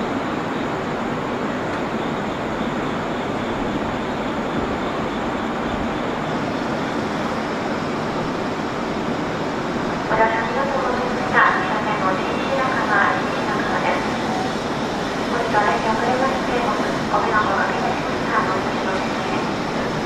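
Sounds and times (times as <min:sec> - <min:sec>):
train rolling: 0:00.0 - 0:20.0.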